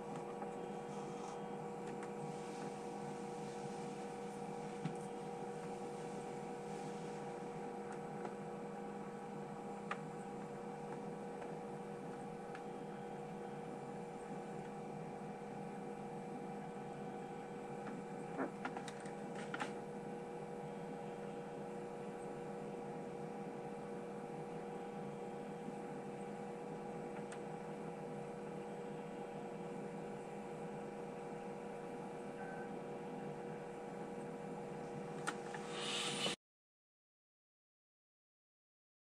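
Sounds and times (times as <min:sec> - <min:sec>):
steady electrical hum: 0:00.0 - 0:36.4.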